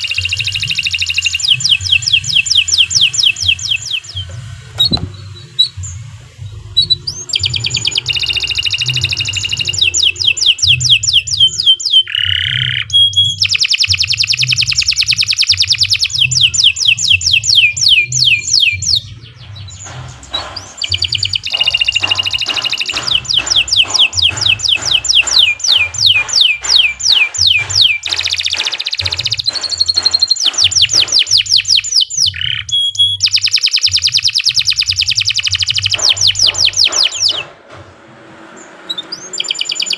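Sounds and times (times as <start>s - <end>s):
canary singing trills: 0.0s - 37.5s, 38.8s - 39.9s.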